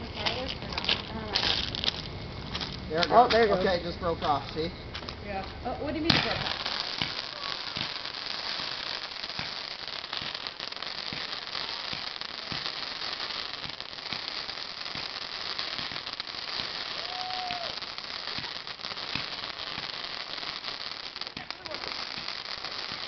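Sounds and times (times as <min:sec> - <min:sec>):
firework hissing and crackling: 0:00.0 - 0:23.0.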